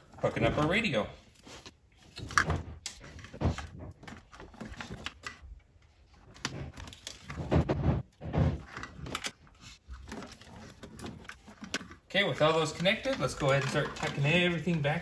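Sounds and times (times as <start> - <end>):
cables rustling: 0.0 - 15.0.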